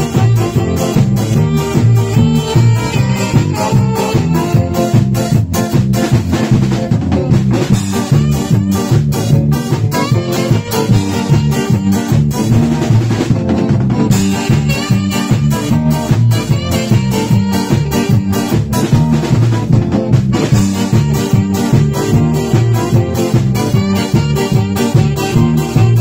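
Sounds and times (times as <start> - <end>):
drum kit: 0.0 - 26.0
electric bass: 0.0 - 26.0
electric guitar: 0.0 - 26.0
saxophone: 0.0 - 26.0.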